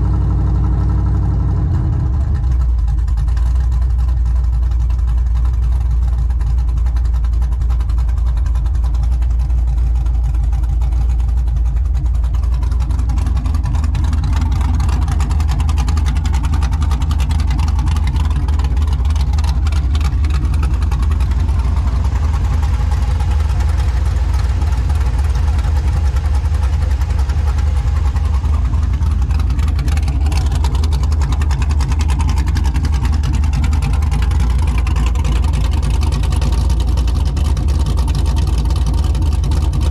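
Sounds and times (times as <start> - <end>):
loud engine and exhaust: 0.0 - 39.9.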